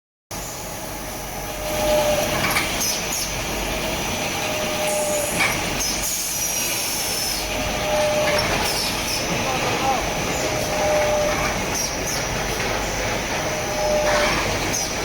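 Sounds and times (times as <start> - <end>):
steady machine noise: 0.3 - 15.0
short machine hum: 1.3 - 15.0.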